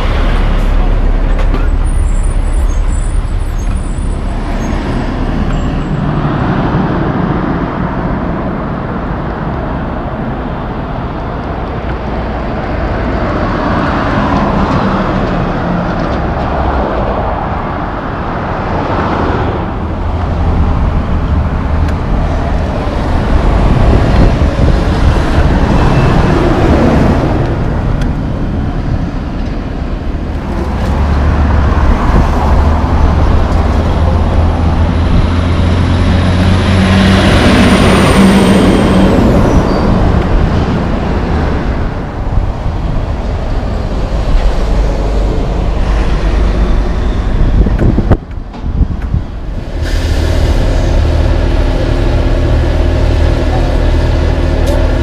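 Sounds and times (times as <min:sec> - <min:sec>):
trucks and cars passing: 0:00.0 - 0:55.0.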